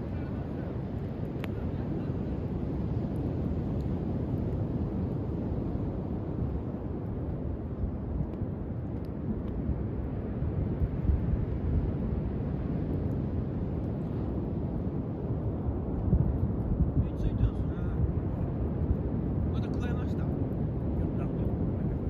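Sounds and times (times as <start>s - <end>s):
fire crackling: 0.0s - 22.0s
wind buffeting microphone: 0.0s - 22.0s.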